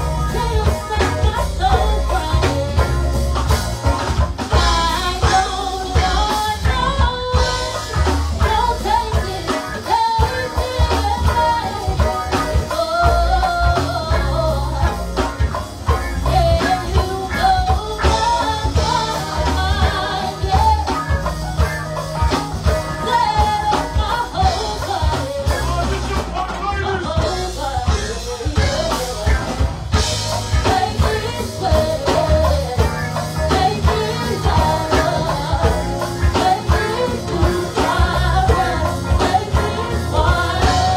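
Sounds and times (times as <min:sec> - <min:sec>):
several vocalists singing: 0:00.0 - 0:03.6, 0:04.5 - 0:15.6, 0:16.2 - 0:21.4, 0:22.8 - 0:40.9
drum kit steady beat: 0:00.0 - 0:40.9.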